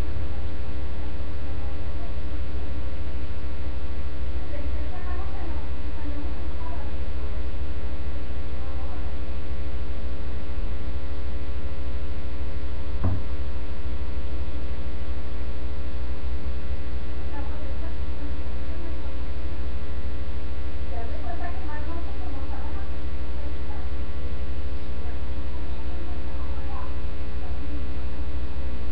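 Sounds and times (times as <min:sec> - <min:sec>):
electrical mains hum: 0:00.0 - 0:28.9.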